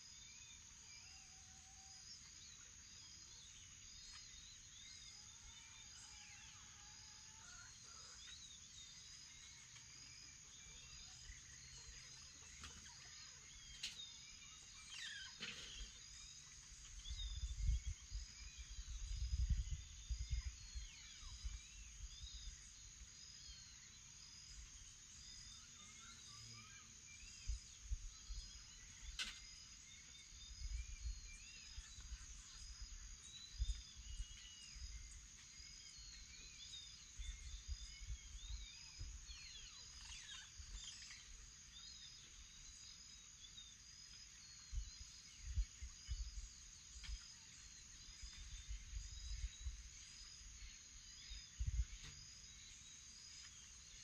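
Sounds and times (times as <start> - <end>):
bird calls and songs: 0.0 - 54.0.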